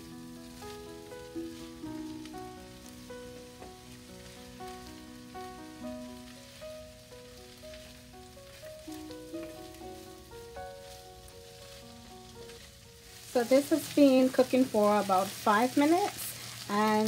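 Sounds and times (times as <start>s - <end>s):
background music melody: 0.0s - 17.0s
vegetables sizzling in oil: 0.0s - 17.0s.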